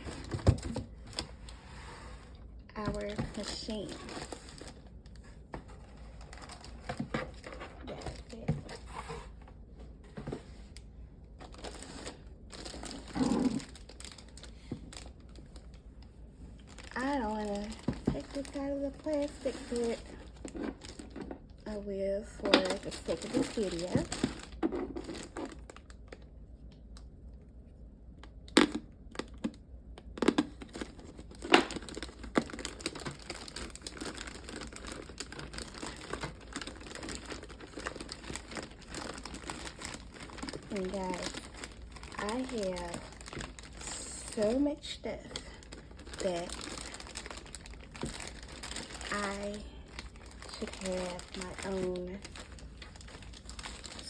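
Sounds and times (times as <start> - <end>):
plastic wrapping crinkling: 0.0 - 1.6, 2.3 - 26.3, 28.3 - 54.0
plastic and cardboard rustling: 0.0 - 26.2, 28.6 - 54.0.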